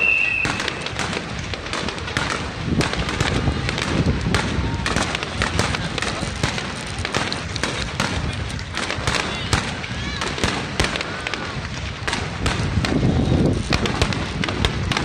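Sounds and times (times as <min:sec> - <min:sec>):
aerial firework shells bursting: 0:00.0 - 0:15.0
fireworks crackling and popping: 0:00.0 - 0:15.0
low firework booms: 0:00.0 - 0:15.0.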